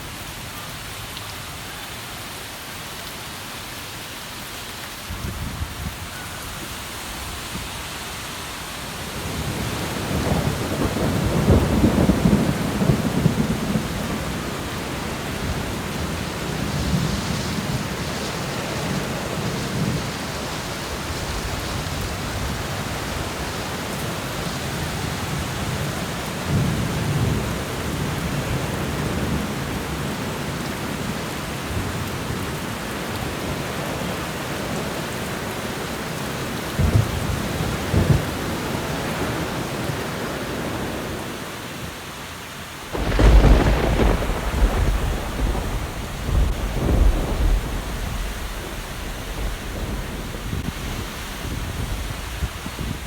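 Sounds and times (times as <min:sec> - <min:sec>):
heavy rain downpour: 0:00.0 - 0:53.0.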